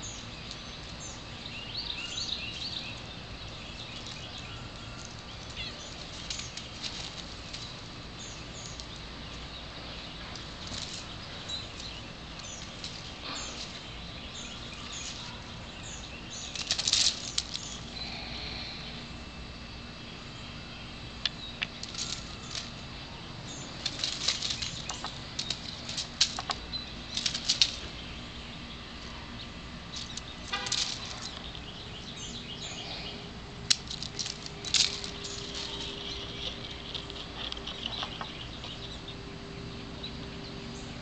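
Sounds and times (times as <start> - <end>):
dry leaves crunching: 0.0 - 18.5, 21.6 - 38.9.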